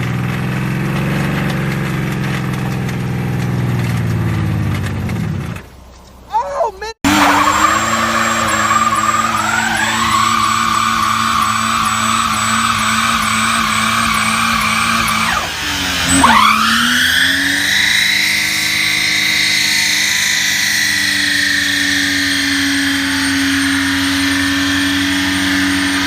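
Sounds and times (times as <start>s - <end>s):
car engine revving: 0.0s - 5.9s, 7.0s - 26.0s.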